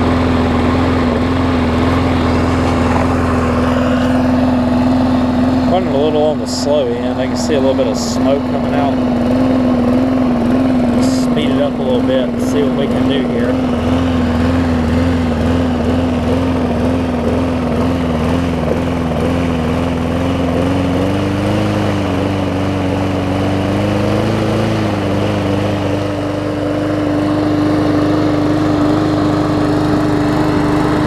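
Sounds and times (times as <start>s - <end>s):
lawn mower engine running: 0.0s - 31.0s.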